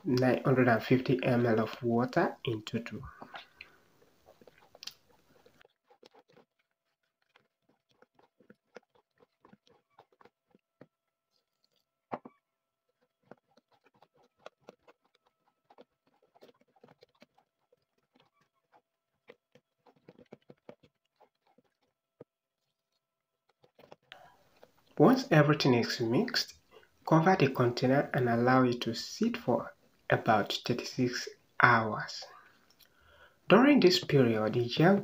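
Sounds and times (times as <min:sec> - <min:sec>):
spatula stirring thick paste: 0:00.2 - 0:11.5, 0:12.1 - 0:32.7.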